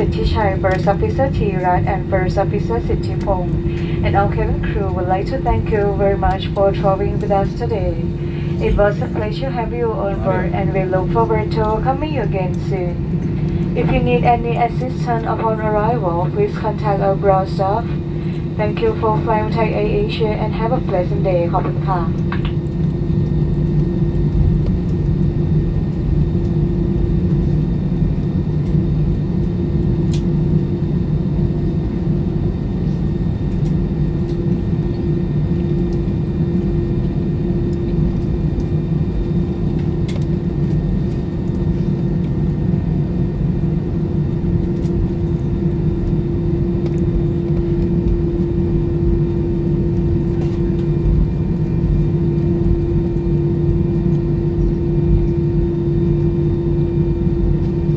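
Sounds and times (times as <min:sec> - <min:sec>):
jet engines drone in cabin: 0:00.0 - 0:57.9.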